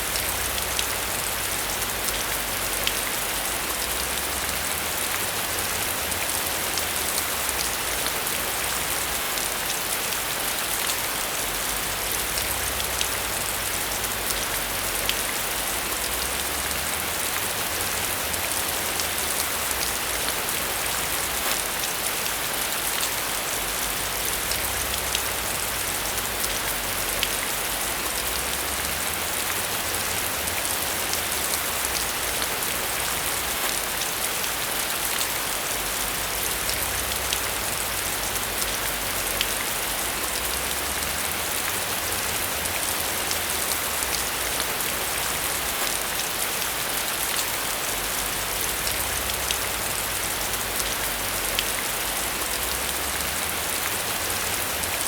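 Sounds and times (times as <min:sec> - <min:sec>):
rain falling on a surface: 0:00.0 - 0:55.0.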